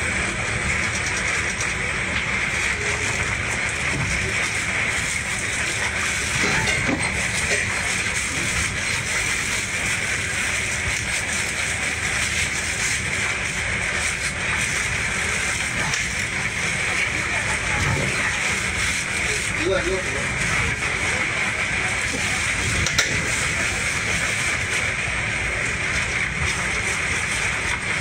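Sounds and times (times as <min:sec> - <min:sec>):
boat engine drone: 0:00.0 - 0:28.0.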